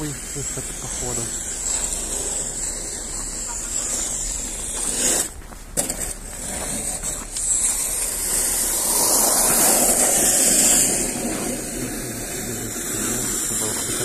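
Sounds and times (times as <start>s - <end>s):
rushing road traffic: 0.0s - 14.0s.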